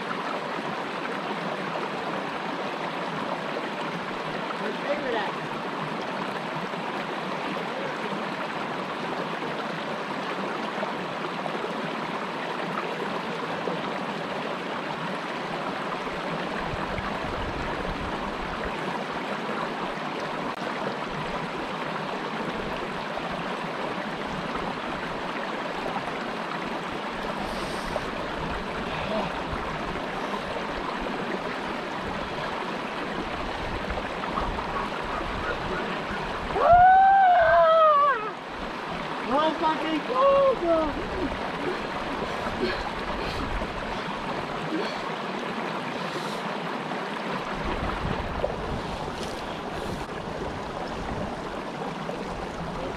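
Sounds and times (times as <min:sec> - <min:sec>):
creek water running over rocks: 0:00.0 - 0:52.9.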